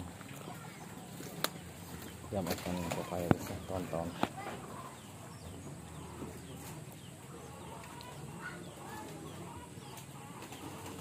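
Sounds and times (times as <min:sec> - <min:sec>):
hen-like clucking: 0:00.0 - 0:11.0
outdoor background: 0:00.0 - 0:11.0
small birds chirping: 0:00.0 - 0:11.0.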